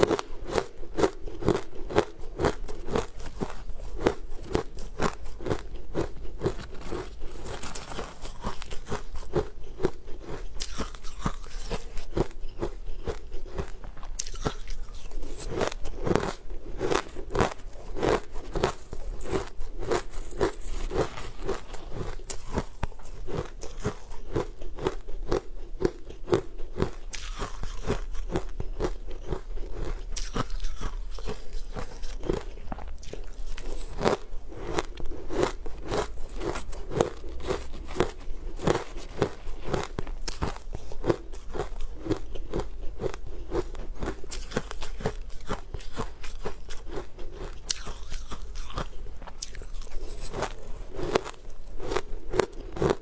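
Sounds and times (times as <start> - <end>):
crunchy sweet being chewed: 0.0 - 53.0.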